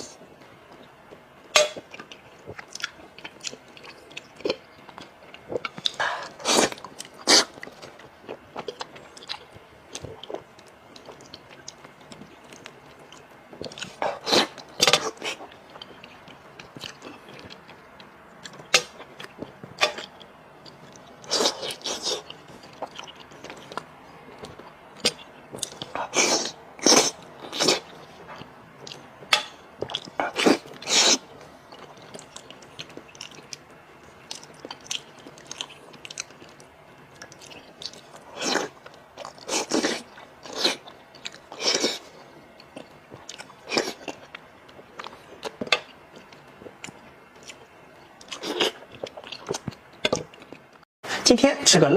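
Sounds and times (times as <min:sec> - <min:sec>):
wet chewing and biting: 0:01.6 - 0:50.8.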